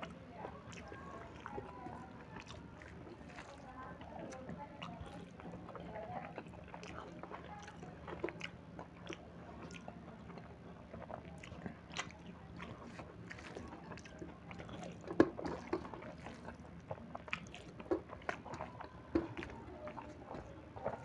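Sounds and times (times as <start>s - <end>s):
wet chewing and lip-smacking: 0.0s - 21.0s.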